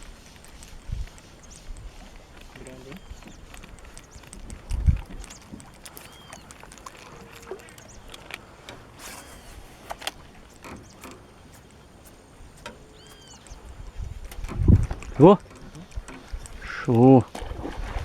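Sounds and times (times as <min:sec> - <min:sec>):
small knocks and clicks: 0:00.4 - 0:16.6.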